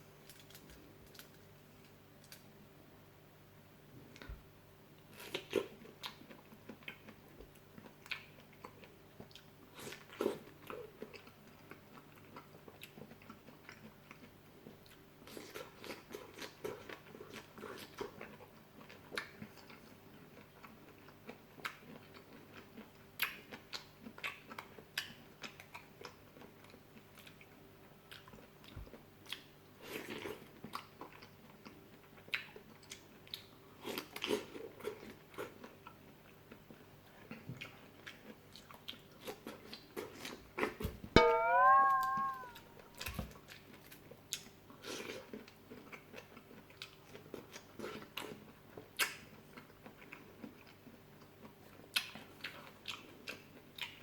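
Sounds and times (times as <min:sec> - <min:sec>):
wet chewing of fruit: 0:05.1 - 0:41.0, 0:43.5 - 0:54.0.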